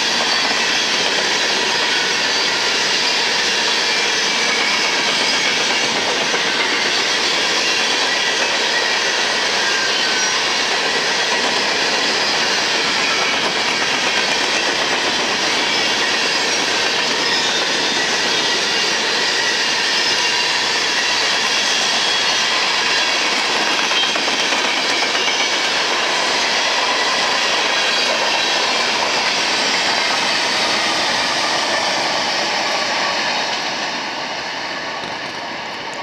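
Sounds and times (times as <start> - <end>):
steel wheels clattering on rail: 0.0 - 36.0.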